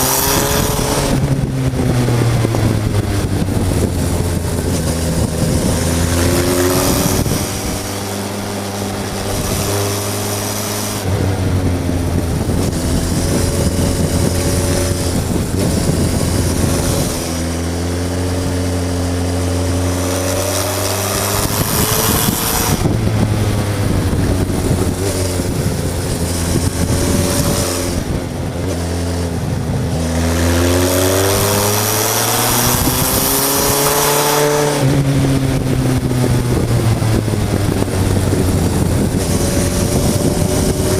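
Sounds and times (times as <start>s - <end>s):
motorcycle engine accelerating: 0.0s - 40.9s
wind rushing over microphone: 0.0s - 40.9s.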